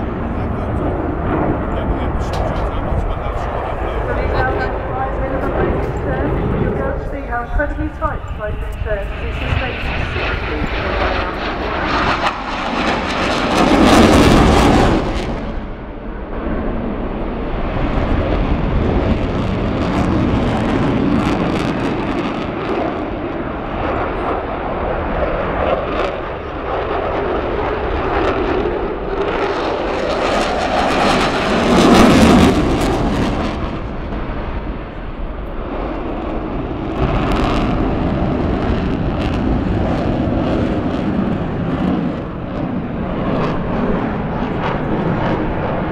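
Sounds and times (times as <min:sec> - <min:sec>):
jet engines roaring: 0:00.0 - 0:45.9.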